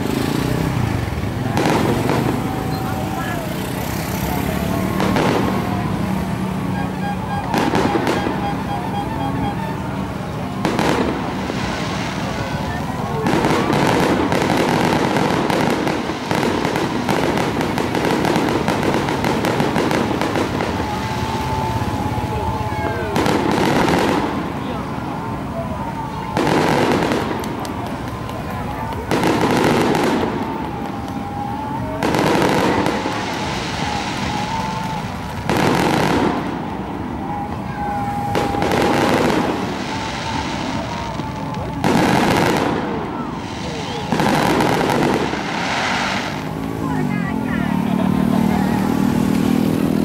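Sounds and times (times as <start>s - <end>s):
fireworks crackling pops: 0.0s - 50.0s.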